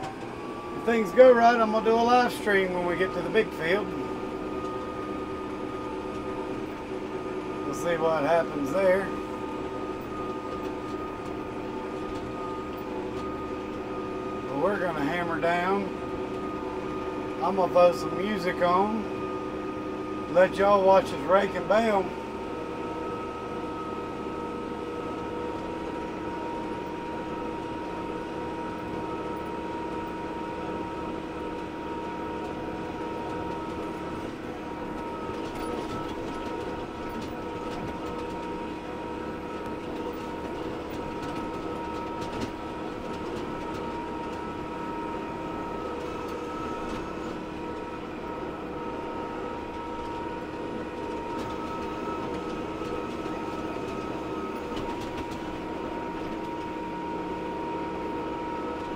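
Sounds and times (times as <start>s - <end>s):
tractor engine droning: 0.0s - 58.9s.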